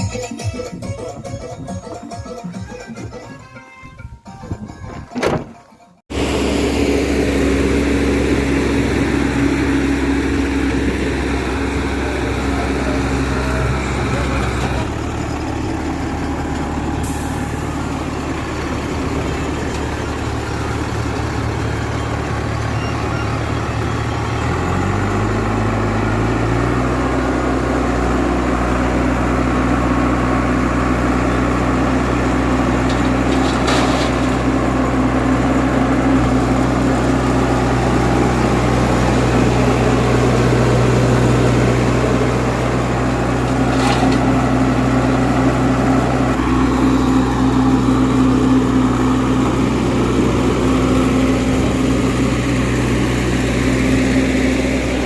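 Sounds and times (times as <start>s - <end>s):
heavy diesel engine running: 6.1s - 55.0s.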